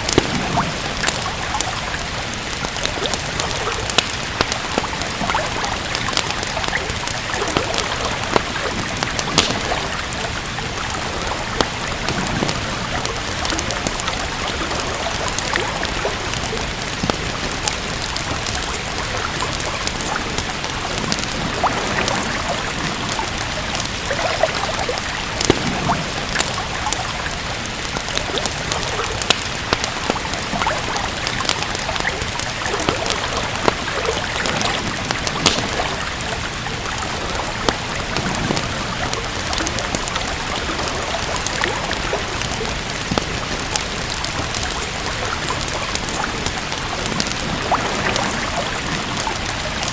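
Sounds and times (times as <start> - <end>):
steady rain: 0.0 - 49.9
wood fire crackling: 0.0 - 49.9.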